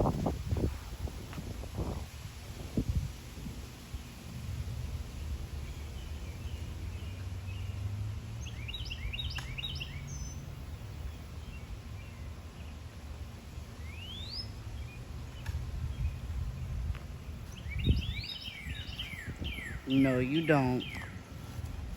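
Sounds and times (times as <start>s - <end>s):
birds chirping: 3.7s - 21.9s.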